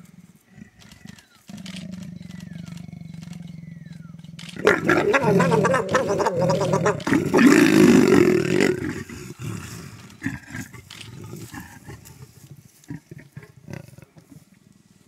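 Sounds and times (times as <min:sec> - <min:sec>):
leopards growling: 0:00.0 - 0:14.8.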